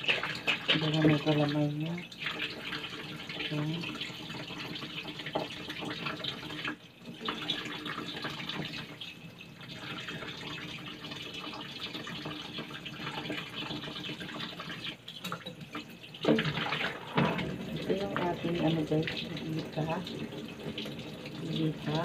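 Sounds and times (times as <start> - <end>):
tap water running into sink: 0.0 - 22.0.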